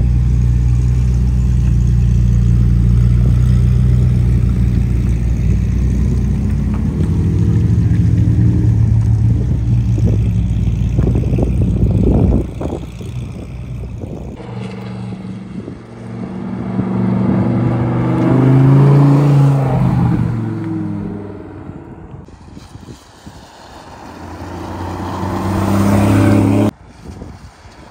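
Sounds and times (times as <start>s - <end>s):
car engines rumbling: 0.0s - 26.8s
sports car engine revving: 0.6s - 22.3s, 24.2s - 26.7s.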